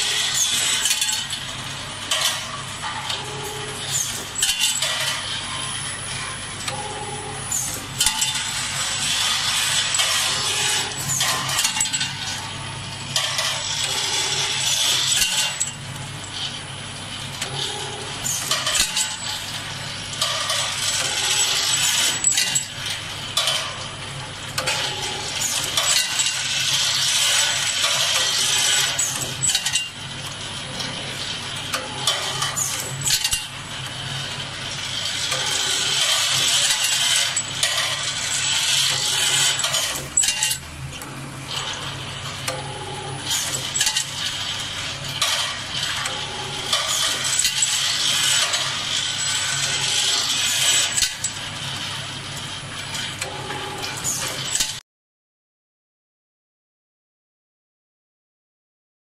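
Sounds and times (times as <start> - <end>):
machine hum and hiss: 0.0 - 54.6.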